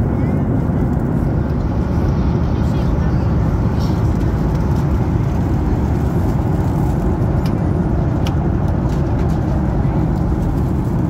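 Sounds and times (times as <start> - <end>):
airplane cabin noise: 0.0 - 11.0.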